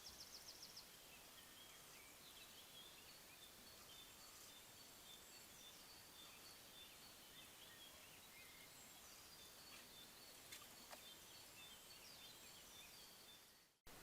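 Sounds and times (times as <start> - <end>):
small birds chirping: 0.0 - 14.0
steady hiss: 0.0 - 14.0.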